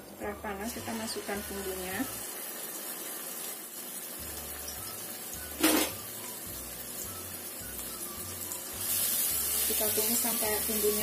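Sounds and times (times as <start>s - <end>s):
paste sizzling in oil: 0.3s - 11.0s.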